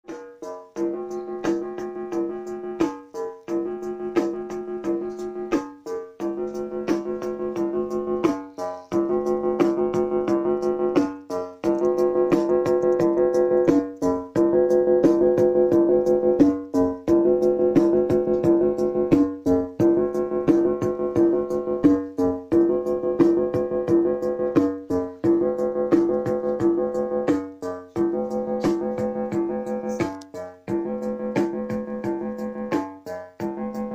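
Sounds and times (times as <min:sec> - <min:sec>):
drum-machine clicks: 0:00.7 - 0:33.9.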